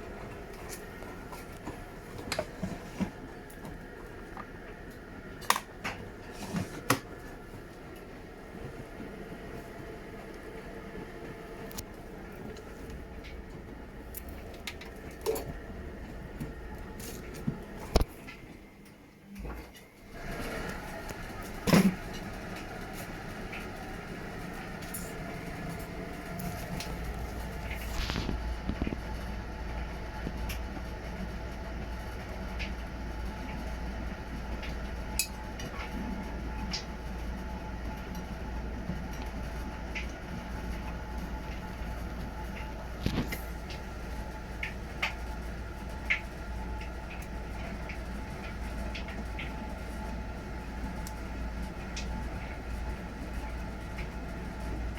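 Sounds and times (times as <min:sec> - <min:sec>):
washing machine running: 0:00.0 - 0:54.9.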